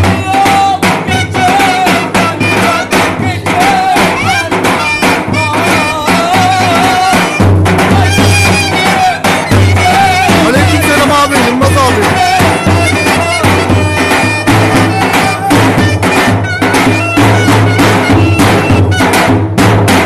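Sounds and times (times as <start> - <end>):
steady drum beats: 0.0 - 20.0
reedy wind instrument with drone: 1.1 - 3.0, 3.8 - 19.3.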